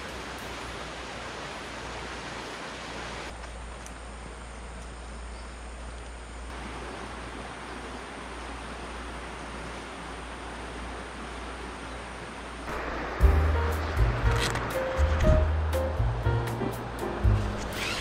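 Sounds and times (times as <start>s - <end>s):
river rushing: 0.0s - 3.4s, 6.5s - 18.0s.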